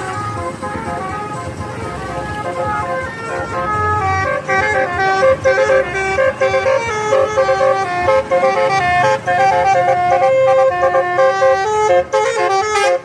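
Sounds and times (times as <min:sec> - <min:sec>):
bus horn playing a tune: 0:00.0 - 0:13.0.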